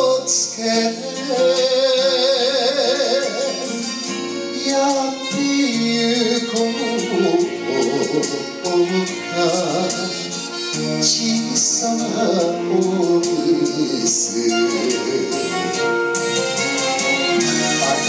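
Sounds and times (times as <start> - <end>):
man singing into a microphone: 0.0 - 16.0, 17.3 - 18.0
instrumental accompaniment with beat: 0.0 - 18.0.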